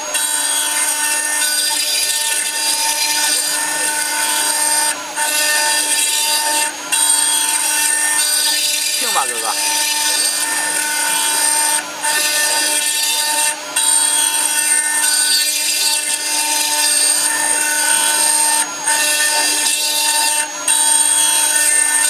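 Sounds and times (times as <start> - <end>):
router spindle high whine: 0.0 - 22.0.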